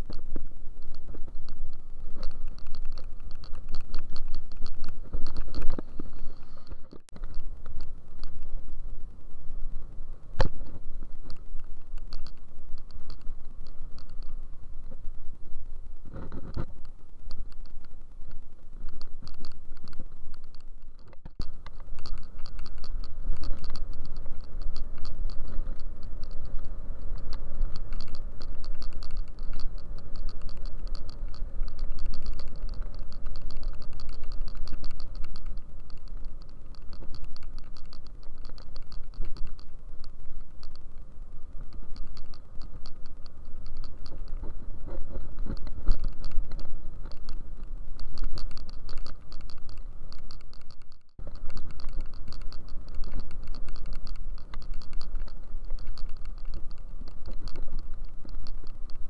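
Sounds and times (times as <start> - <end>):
road rumble: 0.0 - 59.0
small clicks and rattles: 0.0 - 59.0.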